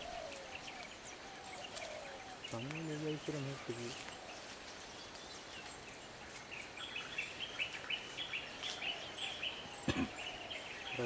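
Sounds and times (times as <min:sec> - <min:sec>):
faint outdoor background noise: 0:00.0 - 0:11.0
small bird chirping: 0:00.0 - 0:11.0.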